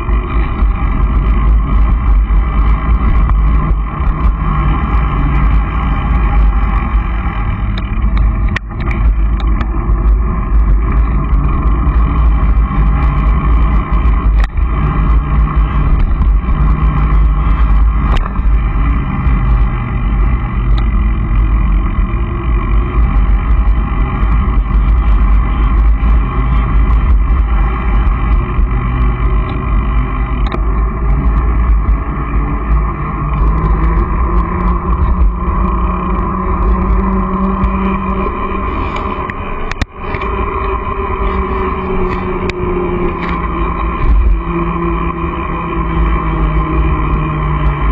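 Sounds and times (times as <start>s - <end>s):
road rumble: 0.0s - 47.9s
wind buffeting microphone: 0.0s - 47.9s.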